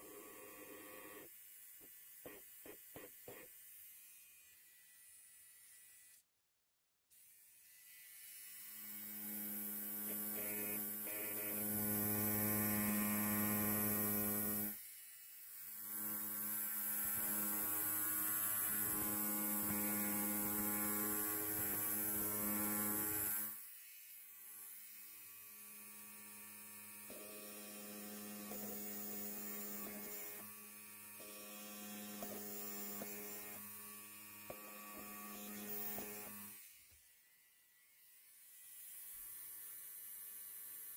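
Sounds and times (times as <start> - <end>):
electric hair clipper buzzing: 0.0 - 6.2, 7.1 - 40.9.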